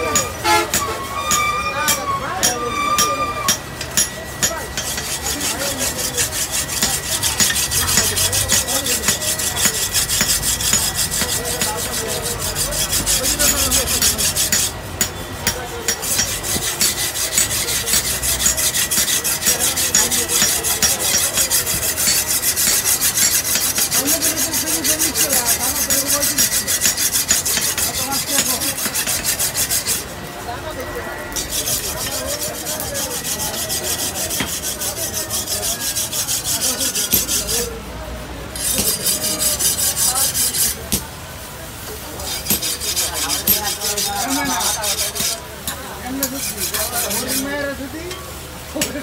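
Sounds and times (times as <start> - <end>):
hand tool rasping on steel blade: 0.0 - 30.1, 31.3 - 37.8, 38.5 - 41.1, 42.0 - 48.2.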